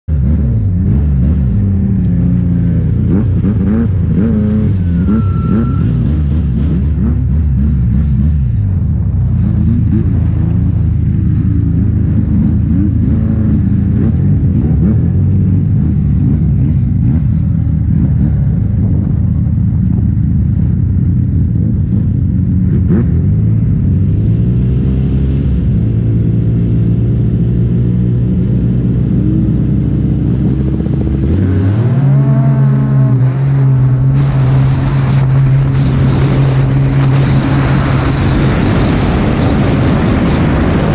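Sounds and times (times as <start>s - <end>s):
snowmobile engines revving: 0.1s - 40.9s.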